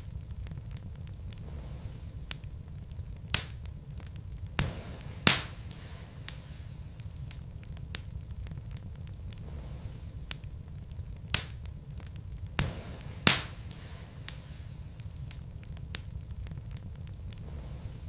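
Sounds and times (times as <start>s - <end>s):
logs crackling and popping: 0.0s - 18.0s
low rumble of flame: 0.0s - 18.0s.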